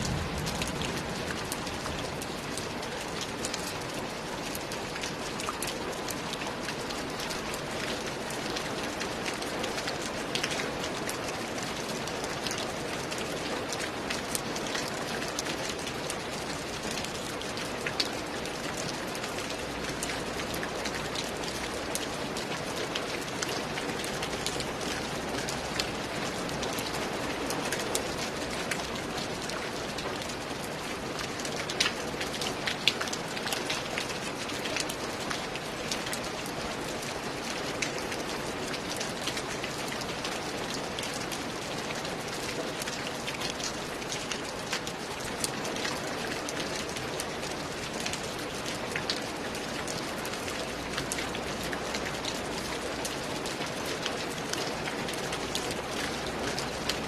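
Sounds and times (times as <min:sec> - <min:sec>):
raindrops ticking close by: 0:00.0 - 0:57.0
steady rain falling: 0:00.0 - 0:57.0.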